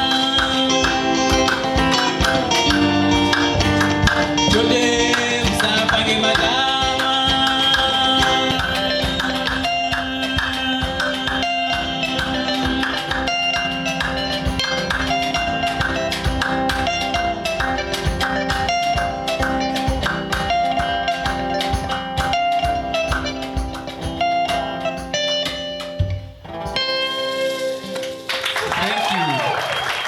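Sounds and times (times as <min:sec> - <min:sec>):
steady drum beat: 0:00.0 - 0:27.2
guitar lines: 0:00.0 - 0:30.0.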